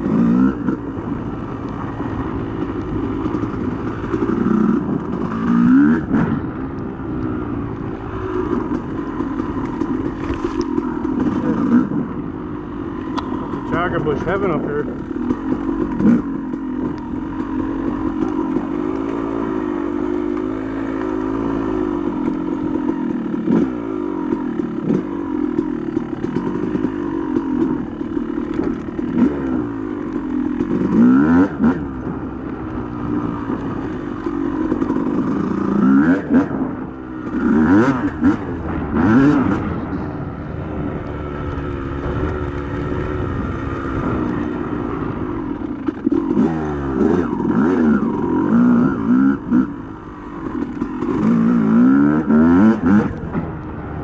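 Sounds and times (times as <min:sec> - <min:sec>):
dirt bike engine revving: 0:00.0 - 0:53.7.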